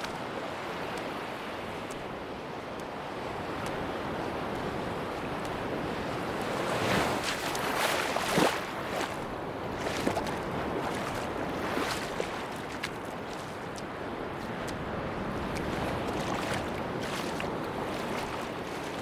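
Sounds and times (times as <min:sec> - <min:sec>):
sea waves on a beach: 0:00.0 - 0:19.0.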